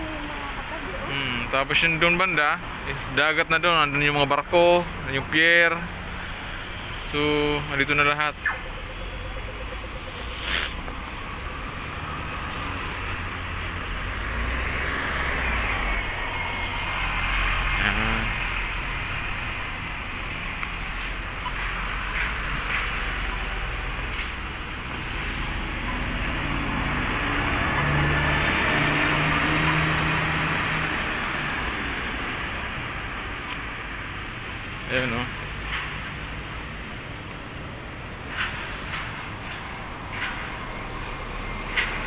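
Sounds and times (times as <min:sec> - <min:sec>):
vehicles passing: 0:00.0 - 0:42.0
low engine hum: 0:04.2 - 0:42.0.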